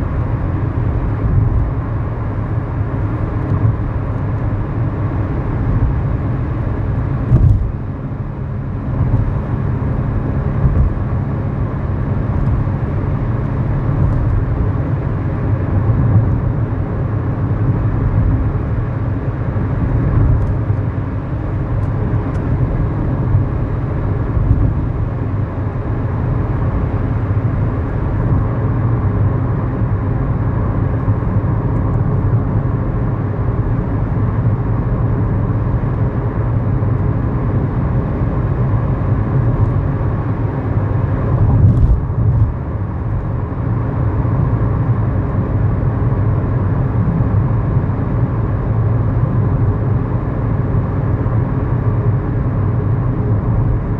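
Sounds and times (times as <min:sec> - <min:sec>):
car engine running: 0:00.0 - 0:53.9
road and tyre noise: 0:00.0 - 0:53.9.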